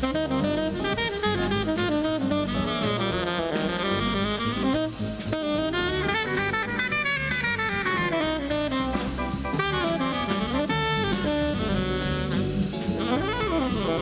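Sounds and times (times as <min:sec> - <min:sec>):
drums: 0:00.0 - 0:14.0
tenor saxophone solo: 0:00.0 - 0:14.0
upright bass: 0:00.0 - 0:14.0.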